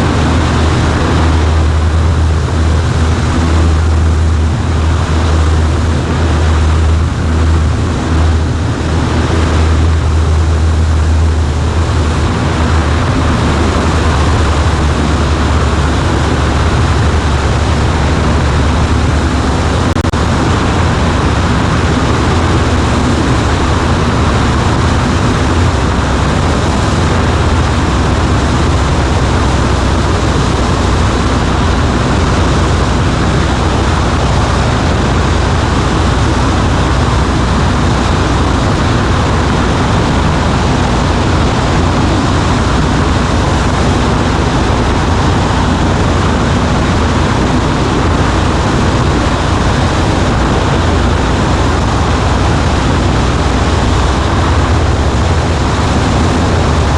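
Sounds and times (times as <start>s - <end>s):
propeller plane engine droning: 0.0s - 56.9s
rushing air: 0.0s - 56.9s.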